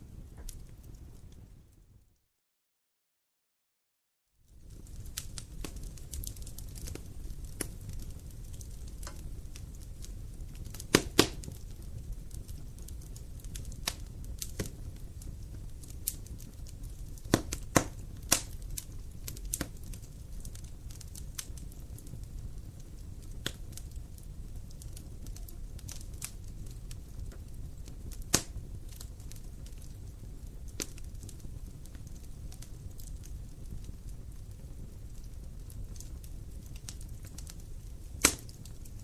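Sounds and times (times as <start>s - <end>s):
wood fire crackling: 0.0s - 2.2s, 4.4s - 39.0s.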